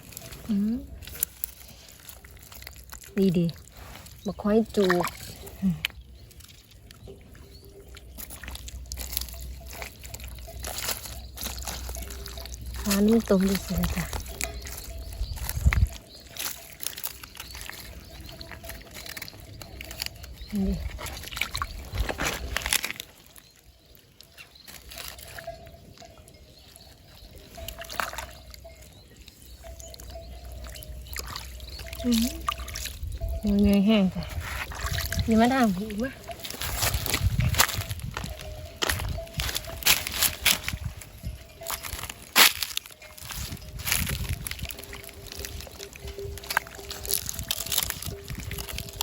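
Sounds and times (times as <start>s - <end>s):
shallow water sloshing: 0.0s - 49.0s
small water splashes: 1.0s - 38.4s, 39.4s - 49.0s.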